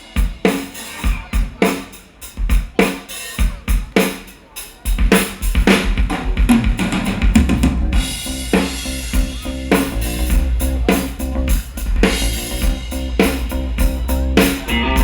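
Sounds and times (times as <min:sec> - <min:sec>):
drum kit beat: 0:00.0 - 0:15.0
rock band playing: 0:00.0 - 0:15.0.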